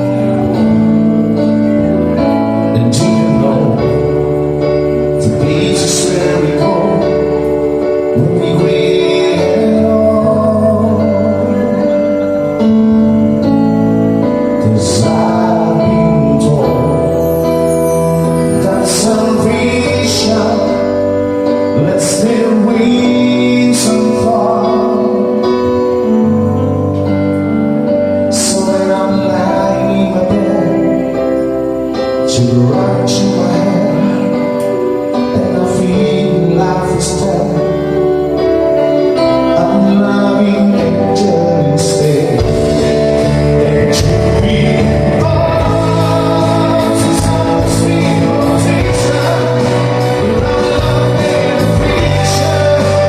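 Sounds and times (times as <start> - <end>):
live band playing: 0.0 - 53.0
person singing: 0.0 - 53.0.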